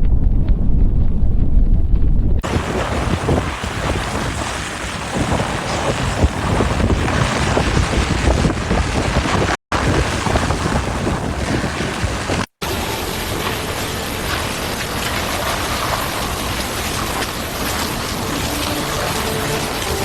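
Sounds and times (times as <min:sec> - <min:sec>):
wind buffeting microphone: 0:00.0 - 0:20.0
surging water: 0:02.4 - 0:20.0.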